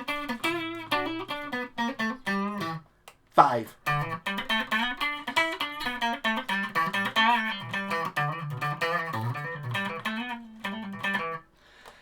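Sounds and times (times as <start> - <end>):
electric guitar picked notes: 0.0 - 2.8, 3.8 - 11.4.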